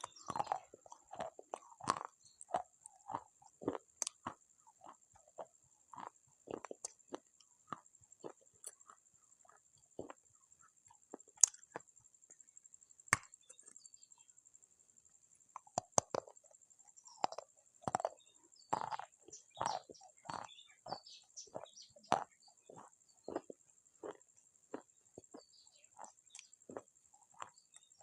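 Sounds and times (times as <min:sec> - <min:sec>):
chewing crunches: 0:00.0 - 0:12.4, 0:15.5 - 0:28.0.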